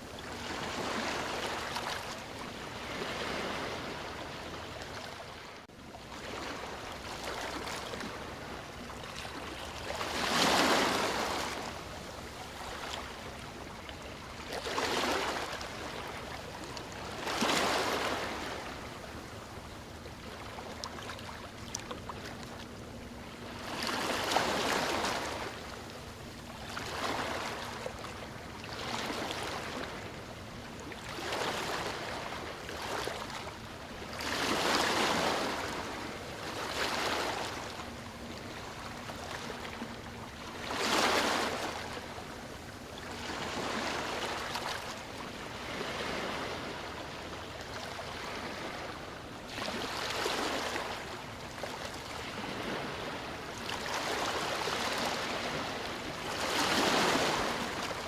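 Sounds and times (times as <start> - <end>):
sea waves washing in: 0.0 - 5.5, 6.2 - 58.0.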